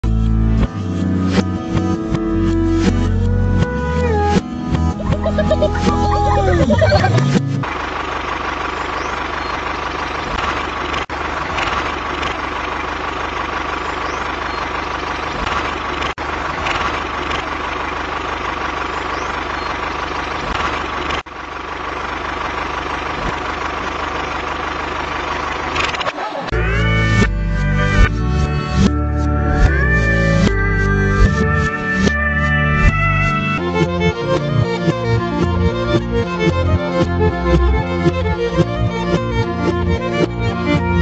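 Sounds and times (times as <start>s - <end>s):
tractor engine idling: 4.6s - 28.4s, 29.6s - 41.0s.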